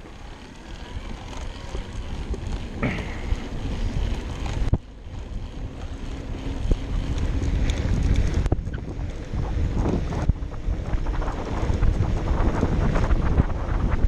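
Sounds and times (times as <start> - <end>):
wind buffeting microphone: 0.0 - 14.0
bike knocking on bumpy ground: 1.2 - 14.0.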